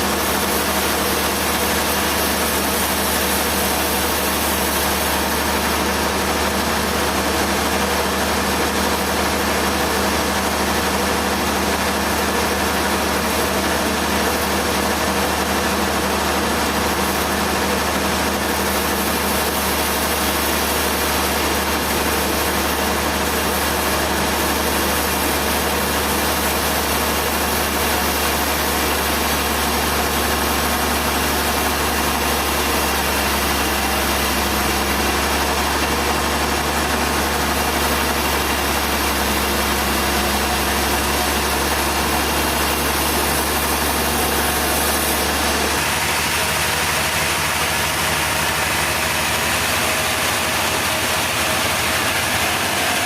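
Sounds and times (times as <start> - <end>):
engine humming steadily: 0.0 - 53.0.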